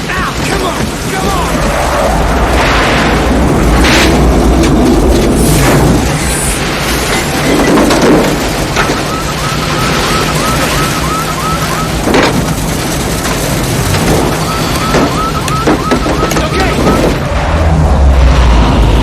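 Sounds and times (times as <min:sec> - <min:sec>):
loud storm wind: 0:00.0 - 0:19.0
truck engine rumbling: 0:00.0 - 0:19.0.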